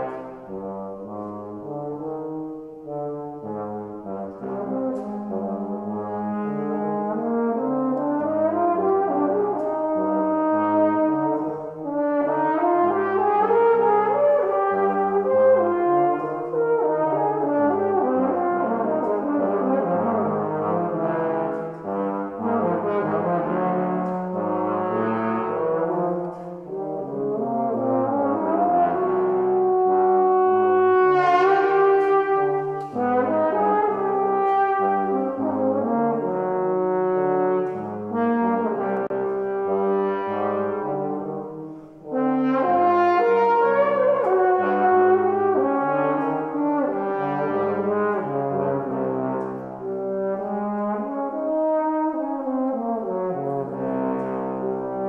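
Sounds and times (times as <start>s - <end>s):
bass trombone low line: 0.0s - 55.0s
tenor trombone higher line: 0.0s - 55.0s.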